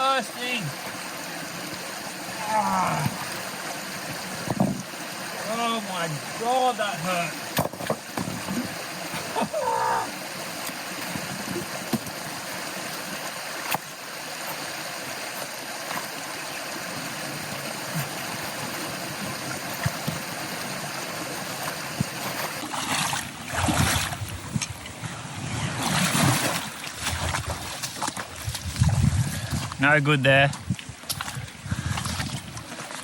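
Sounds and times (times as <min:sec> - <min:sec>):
flowing creek water: 0:00.0 - 0:33.0
water splashing and sloshing: 0:00.0 - 0:33.0.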